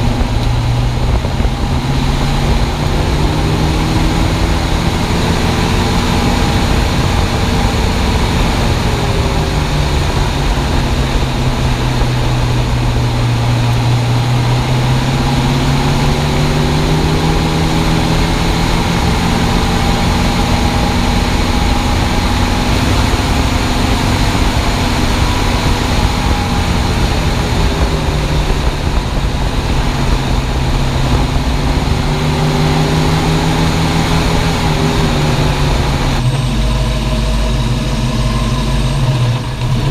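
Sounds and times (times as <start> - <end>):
car engine: 0.0 - 39.9
road and wind noise: 0.0 - 39.9.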